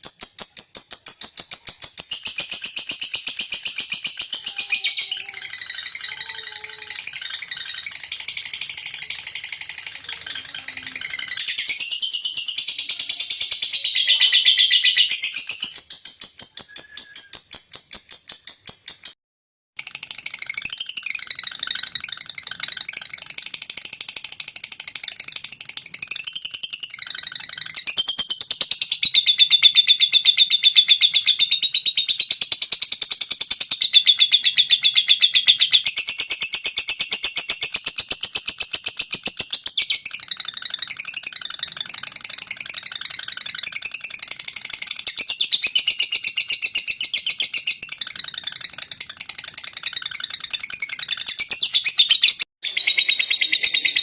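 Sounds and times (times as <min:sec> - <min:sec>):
lovebird chattering trill: 0:00.0 - 0:19.2, 0:25.0 - 0:54.0.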